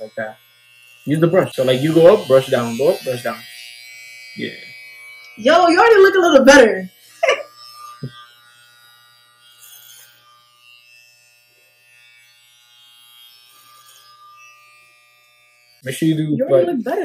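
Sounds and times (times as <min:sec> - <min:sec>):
electric hair clippers humming: 0:00.0 - 0:17.0.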